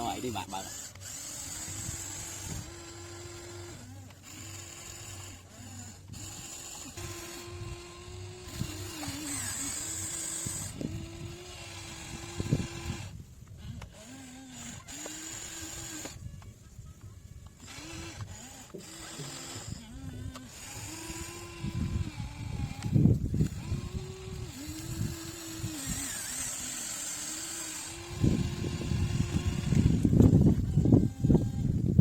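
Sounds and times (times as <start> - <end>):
model excavator motor whining: 0.0 - 32.0.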